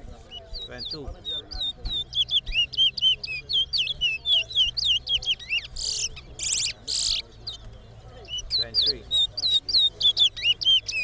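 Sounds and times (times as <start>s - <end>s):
finch singing whistled notes: 0.3s - 7.6s, 8.2s - 11.0s.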